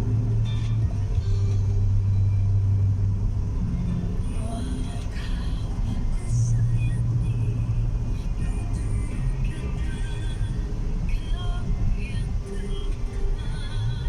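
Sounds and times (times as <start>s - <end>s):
car cabin engine drone: 0.0s - 14.0s.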